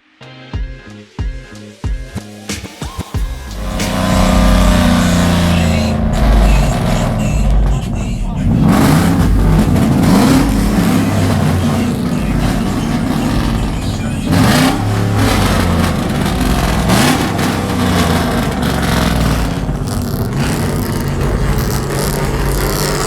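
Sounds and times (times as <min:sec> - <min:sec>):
vehicle engines revving: 0:03.2 - 0:23.0.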